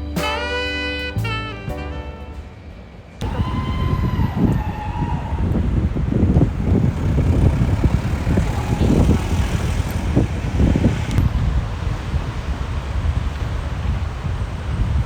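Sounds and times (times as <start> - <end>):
street traffic: 0.0 - 15.0
wind rumble on microphone: 2.3 - 15.0.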